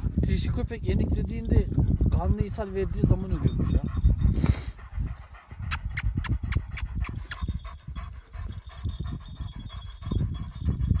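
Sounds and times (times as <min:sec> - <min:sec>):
dog panting: 0:01.2 - 0:11.0.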